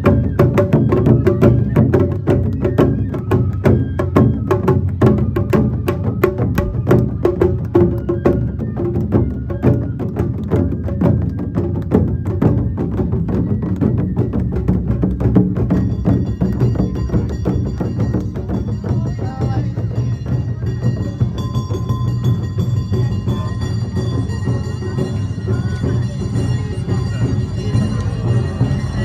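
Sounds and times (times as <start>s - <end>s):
clacking percussion: 0.0s - 29.0s
drums playing fast beat: 3.3s - 29.0s.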